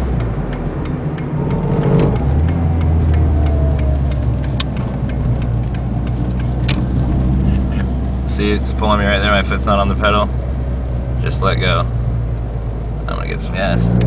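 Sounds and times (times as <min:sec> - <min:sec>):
car engine drone from inside: 0:00.0 - 0:14.0
faint regular ticking: 0:00.0 - 0:14.0.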